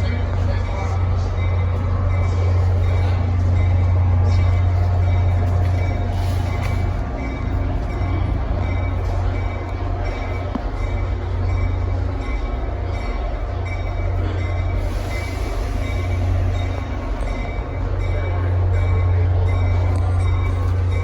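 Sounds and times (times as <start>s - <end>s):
train deep hum: 0.0s - 21.0s.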